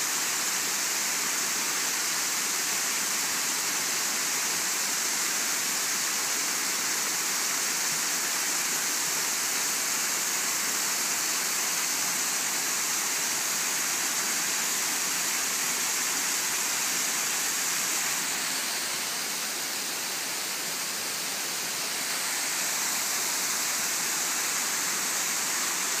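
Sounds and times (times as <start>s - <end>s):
waterfall pouring and splashing: 0.0s - 26.0s.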